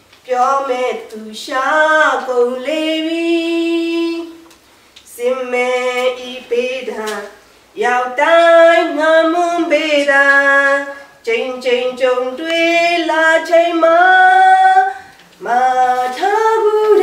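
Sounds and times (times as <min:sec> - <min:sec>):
woman singing unaccompanied: 0:00.2 - 0:17.0.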